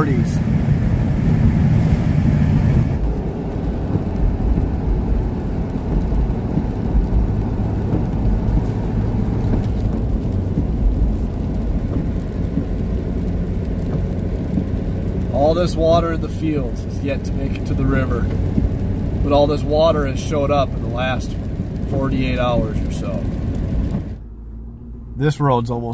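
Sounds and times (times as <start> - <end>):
car engine and tyre rumble: 0.0 - 25.9.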